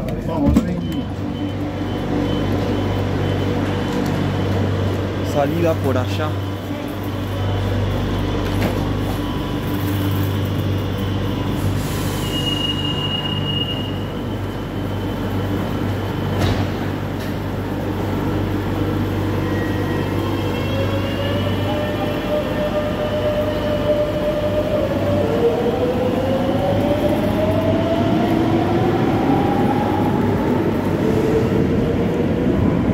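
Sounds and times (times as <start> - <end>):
electric train humming: 0.8 - 32.9.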